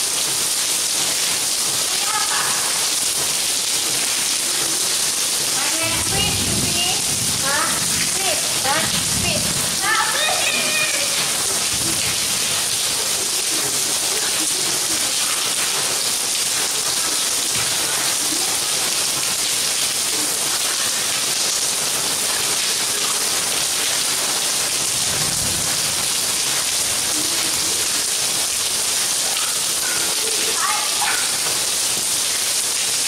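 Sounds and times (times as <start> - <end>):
rain on pavement: 0.0 - 33.0.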